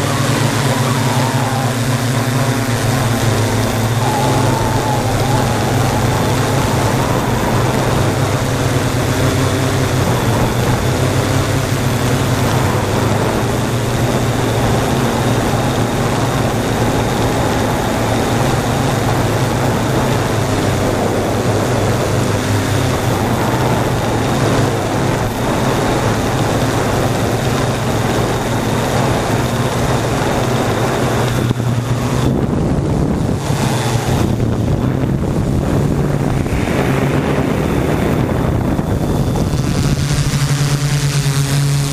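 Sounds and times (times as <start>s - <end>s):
drone motors humming: 0.0s - 41.9s
wind noise on microphone: 0.0s - 41.9s.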